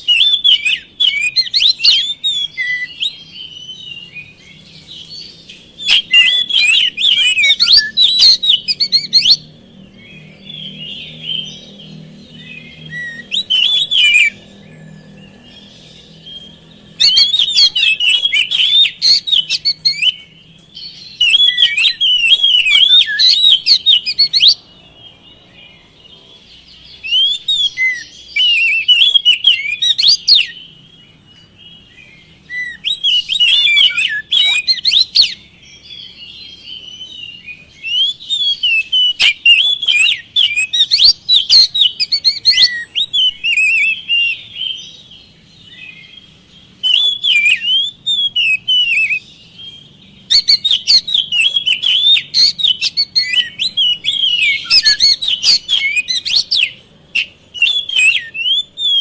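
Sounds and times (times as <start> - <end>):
songbird whistling varied phrases: 0.0 - 9.5, 12.4 - 14.5, 16.3 - 20.3, 20.9 - 24.6, 27.0 - 30.7, 32.0 - 59.0.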